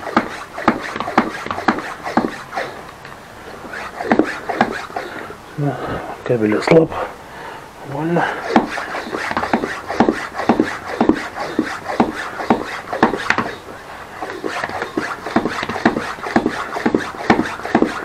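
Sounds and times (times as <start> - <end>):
bicycle pump strokes: 0.0 - 5.4, 8.2 - 18.0.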